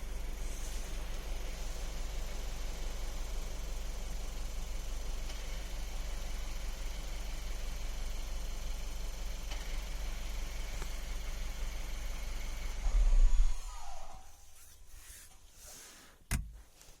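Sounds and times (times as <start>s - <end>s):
car engine idling: 0.0s - 15.4s.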